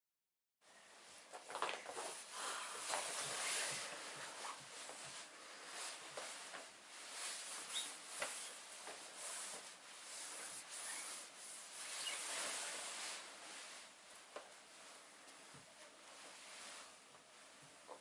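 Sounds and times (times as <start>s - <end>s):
rubbing and rustling: 1.1s - 18.0s.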